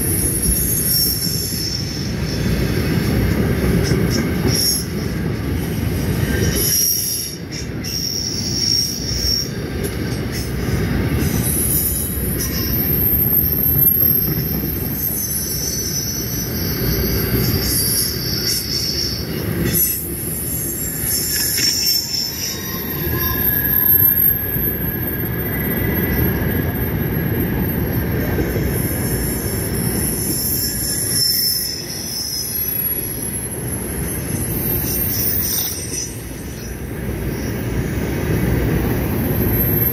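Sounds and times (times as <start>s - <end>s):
high-pitched wheel squeal: 0.0s - 3.3s, 4.1s - 9.6s, 10.3s - 39.9s
rumble of wheels on rail: 0.0s - 39.9s.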